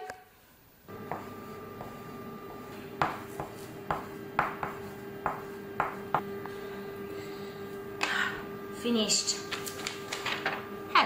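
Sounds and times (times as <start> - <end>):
steady hum: 0.6 - 11.0.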